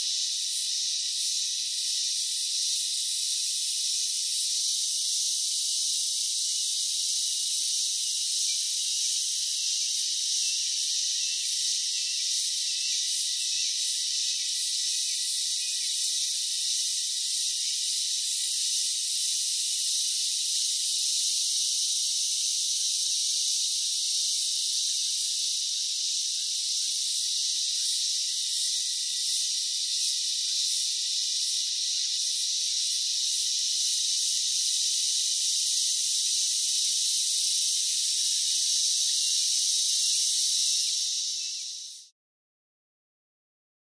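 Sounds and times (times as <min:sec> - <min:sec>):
insects buzzing: 0:00.0 - 0:42.1.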